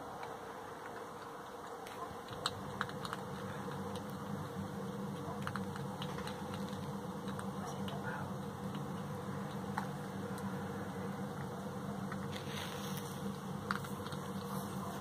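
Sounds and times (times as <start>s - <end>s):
hedgehog crunching biscuits: 0.0s - 15.0s
low background hum: 0.0s - 15.0s.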